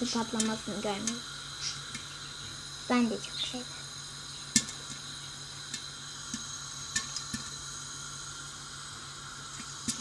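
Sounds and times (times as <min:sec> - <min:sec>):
hot oil hissing: 0:00.0 - 0:10.0
popcorn popping: 0:00.0 - 0:10.0.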